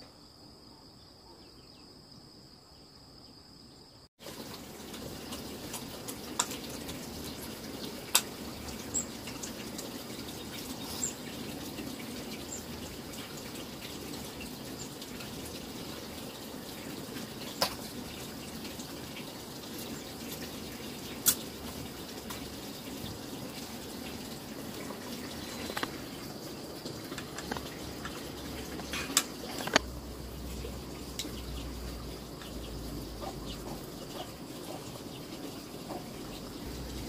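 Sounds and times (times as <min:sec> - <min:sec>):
water running: 0:04.2 - 0:37.0.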